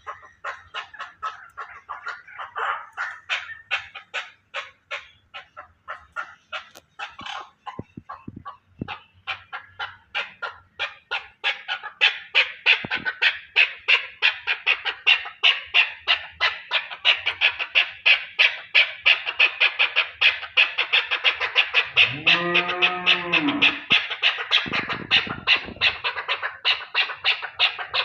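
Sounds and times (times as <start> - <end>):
partridge calling chuck notes: 0.0 - 28.0.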